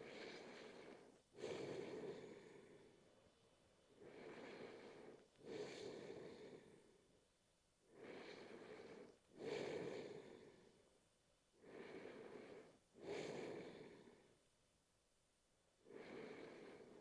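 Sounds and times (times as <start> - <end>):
slow deep breathing: 0.0 - 7.2, 7.9 - 14.4, 15.8 - 17.0.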